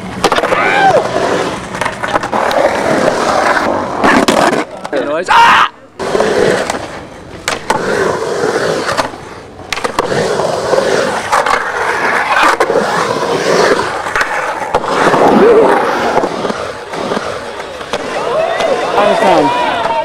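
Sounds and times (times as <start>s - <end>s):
skateboard clacks: 0.0s - 5.1s, 6.0s - 20.0s
skateboard wheels rolling on concrete: 0.0s - 20.0s.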